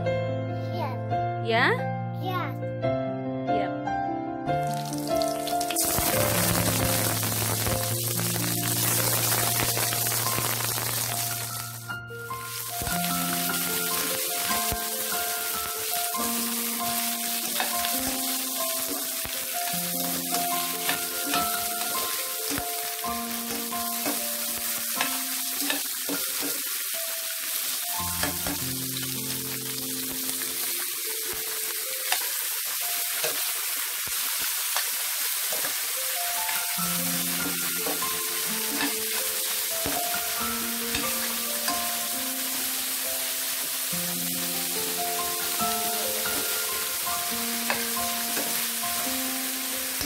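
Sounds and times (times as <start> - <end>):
soft background music: 0.0 - 33.8, 35.9 - 50.0
food sizzling in a pan: 4.6 - 50.0.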